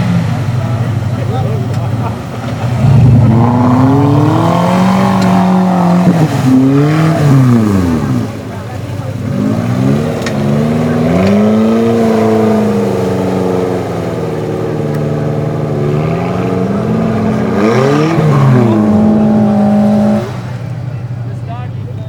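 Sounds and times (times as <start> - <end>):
engine revving under load: 0.0 - 20.9.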